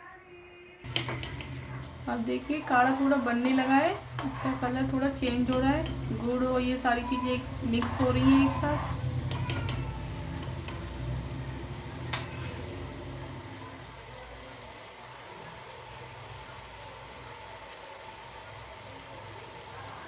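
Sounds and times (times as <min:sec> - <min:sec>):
pot simmering on gas stove: 0:00.8 - 0:20.0.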